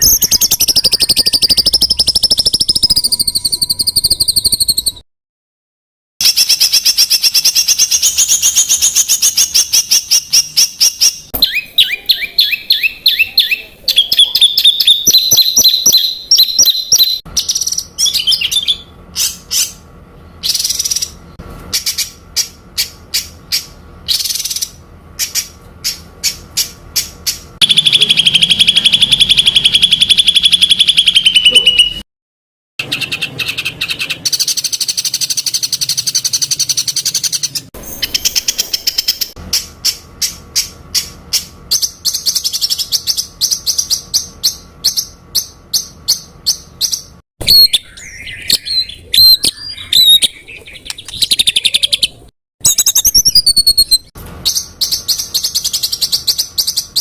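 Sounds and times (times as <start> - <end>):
songbirds singing rapid trills: 0.0 - 5.0, 6.2 - 32.0, 32.8 - 57.0.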